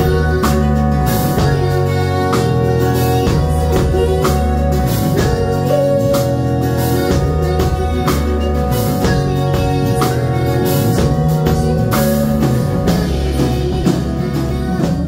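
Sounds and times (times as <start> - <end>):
drum kit with cymbals: 0.0 - 15.0
electric keyboard chords: 0.0 - 15.0
woman singing: 0.0 - 15.0.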